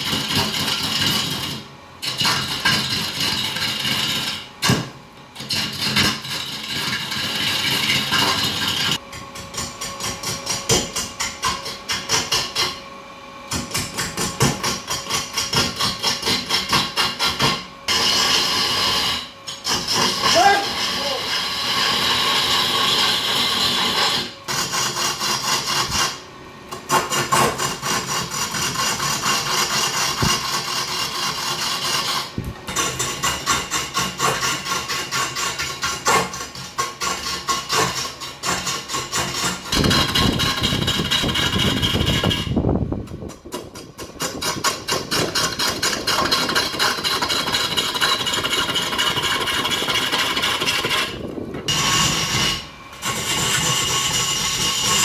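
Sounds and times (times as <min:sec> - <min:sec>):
lathe tool scraping wood: 0:00.0 - 0:12.9, 0:13.5 - 0:55.0.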